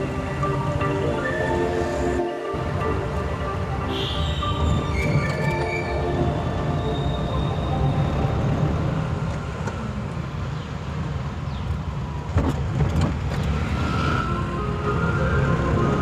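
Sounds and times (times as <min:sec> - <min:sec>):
motor vehicle rumbling: 0:00.0 - 0:16.0.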